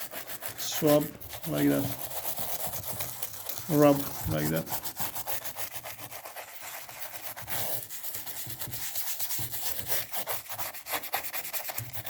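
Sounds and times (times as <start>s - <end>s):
toothbrush scrubbing plastic: 0.0s - 12.0s.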